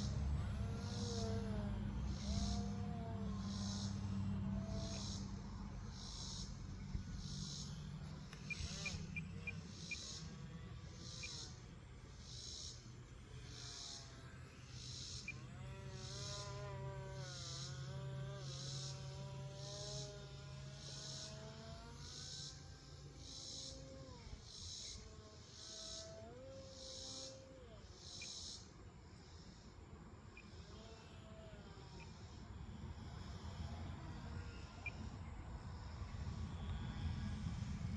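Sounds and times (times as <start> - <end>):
crickets chirping: 0.0 - 37.9
model plane motor whine: 0.0 - 37.9.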